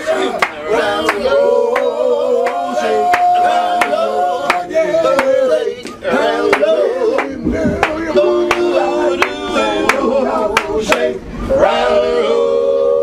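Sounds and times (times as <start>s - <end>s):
men singing in harmony: 0.0s - 13.0s.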